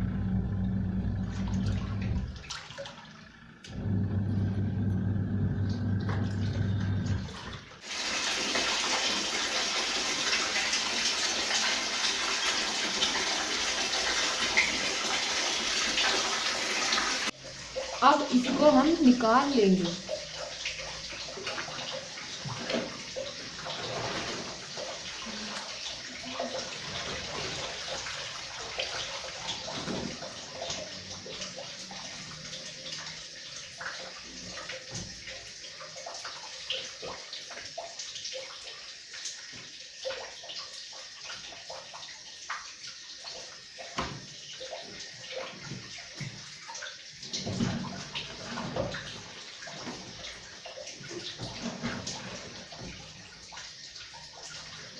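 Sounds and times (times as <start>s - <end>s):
water sloshing in a tub: 0.0s - 54.9s
small splashes and drips: 1.3s - 3.7s, 7.2s - 54.9s.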